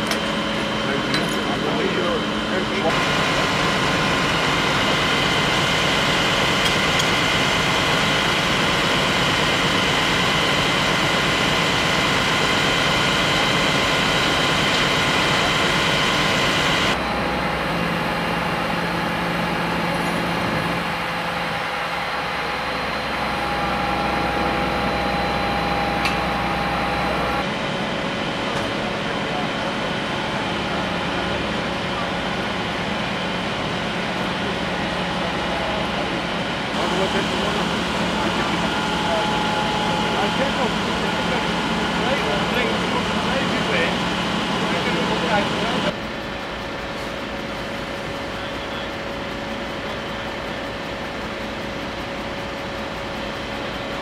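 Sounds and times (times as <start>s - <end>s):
fire truck engines droning: 0.0s - 54.0s
steady whining tones: 0.0s - 54.0s.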